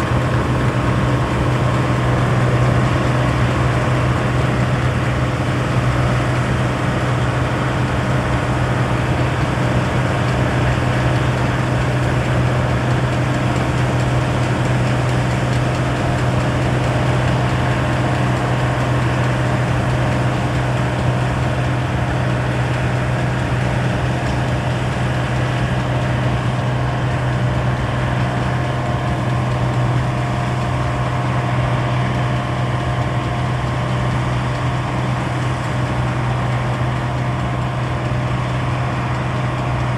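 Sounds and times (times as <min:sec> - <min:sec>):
combine harvester engine drone: 0:00.0 - 0:39.9
threshing machinery clatter: 0:00.0 - 0:39.9.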